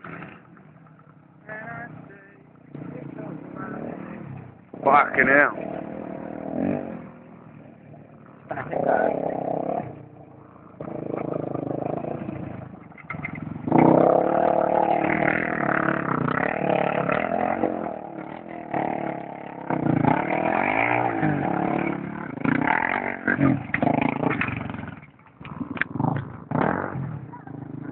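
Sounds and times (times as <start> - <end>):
motorbike engine revving: 0.0 - 27.9.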